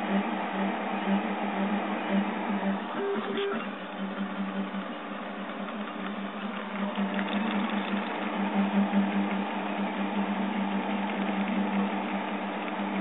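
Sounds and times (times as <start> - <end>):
cooling fan hum: 0.0 - 13.0
stepper motors buzzing: 0.0 - 13.0.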